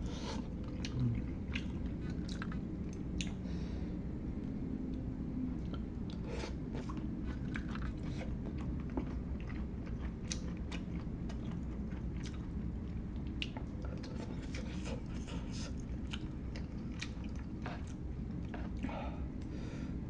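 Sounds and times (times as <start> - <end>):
chewing and biting food: 0.3 - 3.4, 5.6 - 19.0.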